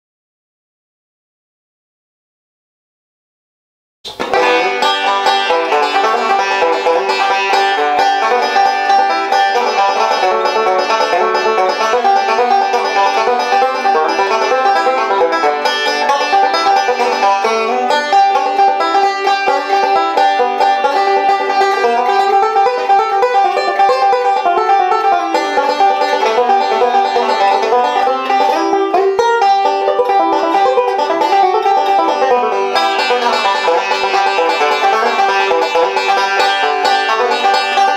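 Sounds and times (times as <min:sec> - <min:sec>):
banjo picking: 0:04.1 - 0:37.9.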